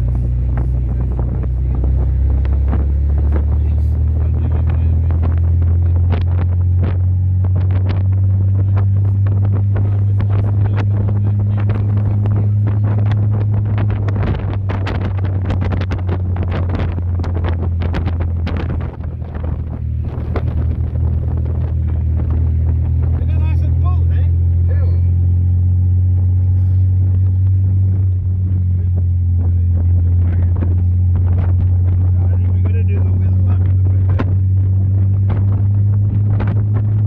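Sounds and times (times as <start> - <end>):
car engine humming: 0.0 - 37.0
wind buffeting microphone: 0.0 - 37.0.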